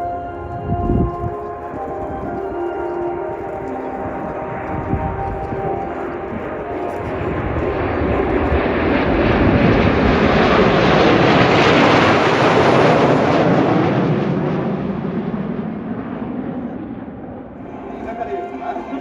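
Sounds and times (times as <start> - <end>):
jet aircraft passing overhead: 0.0 - 19.0.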